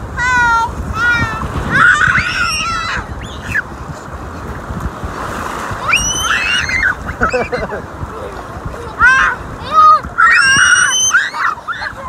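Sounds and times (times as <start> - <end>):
shallow surf washing: 0.0 - 12.0
wind buffeting microphone: 0.0 - 12.0.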